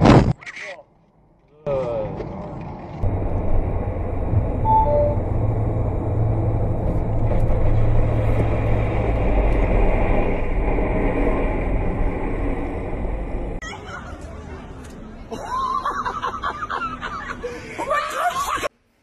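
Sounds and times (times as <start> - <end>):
car road and engine rumble: 1.0 - 18.0.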